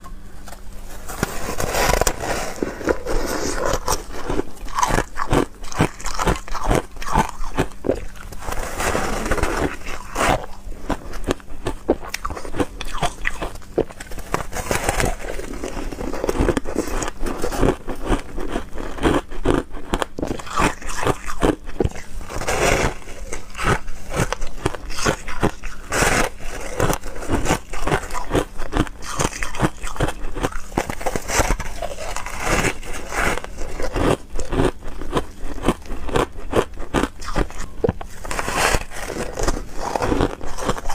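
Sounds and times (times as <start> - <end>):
person crunching ice: 1.0 - 40.9.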